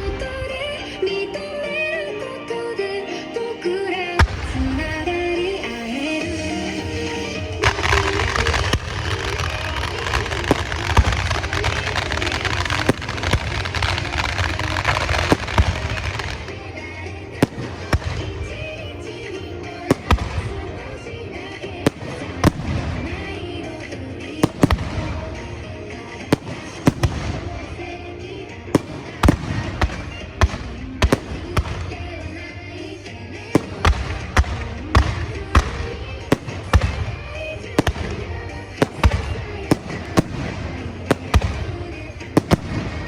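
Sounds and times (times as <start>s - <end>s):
fireworks bangs and crackling: 0.0s - 2.5s, 3.1s - 43.0s
background music: 0.0s - 43.0s.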